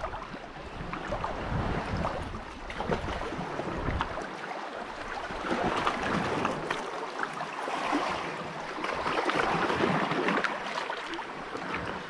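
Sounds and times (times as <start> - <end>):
sea water washing against rocks: 0.0 - 12.0.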